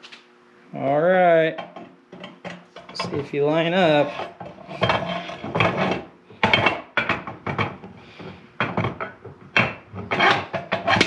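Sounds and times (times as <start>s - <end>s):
metal clanks and scrapes: 1.6s - 11.0s.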